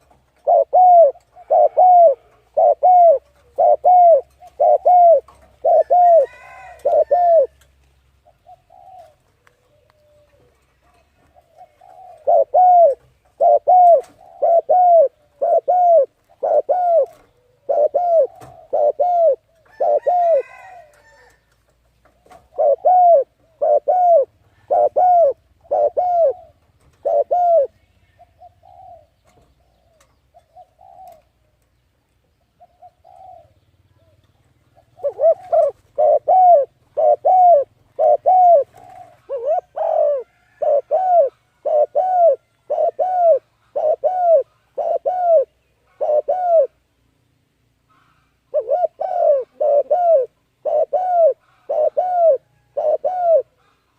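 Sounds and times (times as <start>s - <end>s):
bird hooting calls: 0.0s - 7.6s, 8.2s - 10.6s, 11.3s - 21.3s, 22.5s - 31.4s, 32.6s - 34.2s, 34.8s - 46.8s, 47.9s - 53.9s.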